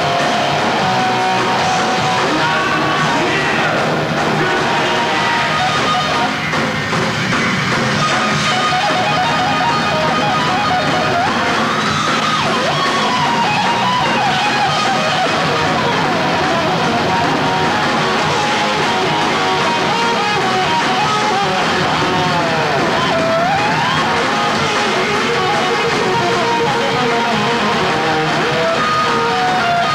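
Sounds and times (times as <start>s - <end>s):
electric guitar sliding melody: 0.0s - 7.1s, 7.8s - 29.9s
heavy metal band playing live: 0.0s - 29.9s.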